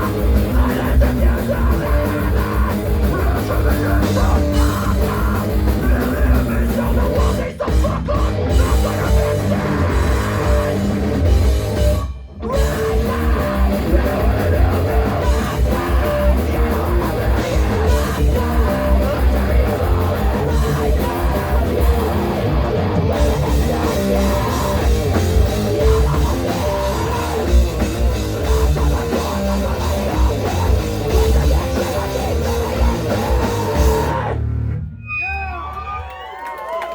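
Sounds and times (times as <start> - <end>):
distorted guitar: 0.0 - 35.4
bass guitar: 0.0 - 36.2
drums: 0.0 - 36.9.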